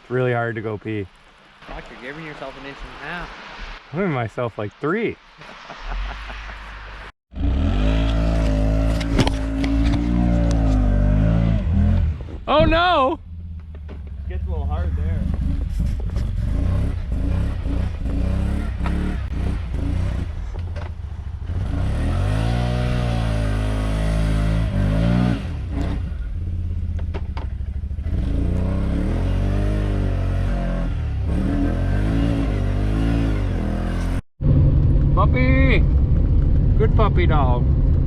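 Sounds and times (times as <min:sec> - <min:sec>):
vehicle engine revving: 0:06.7 - 0:12.5, 0:13.2 - 0:38.0.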